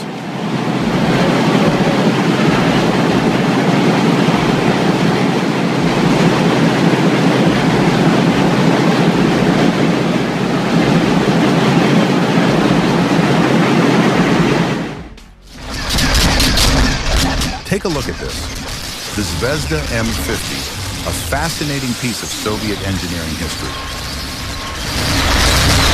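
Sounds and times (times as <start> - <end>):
diesel engine clattering: 0.8 - 13.2, 15.0 - 25.9.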